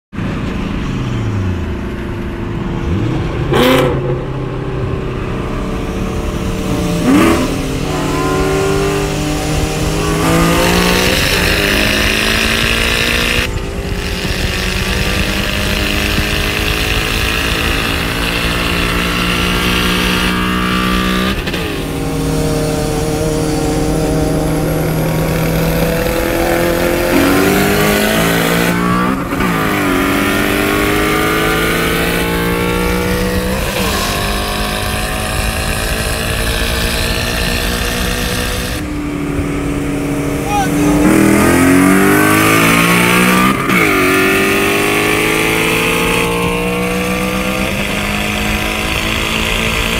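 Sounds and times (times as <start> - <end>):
car engine accelerating through gears: 0.2 - 49.9
engine running alongside: 0.2 - 49.9.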